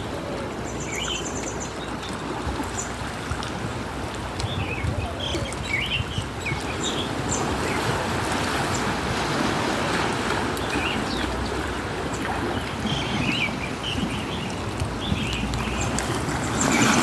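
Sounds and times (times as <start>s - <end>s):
sea water washing and surging: 0.0s - 17.0s.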